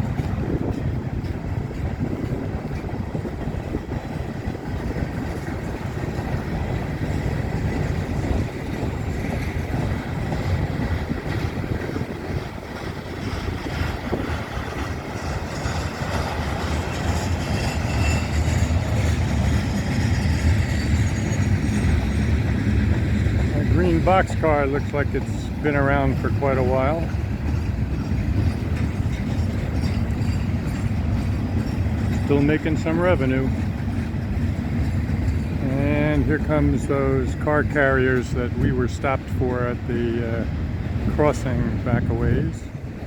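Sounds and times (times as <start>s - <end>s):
freight train wheels rumbling on rails: 0.0s - 43.0s.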